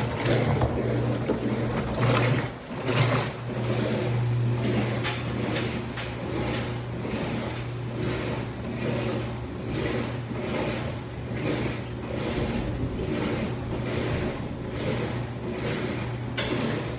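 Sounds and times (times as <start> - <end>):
washing machine humming: 0.0 - 16.9.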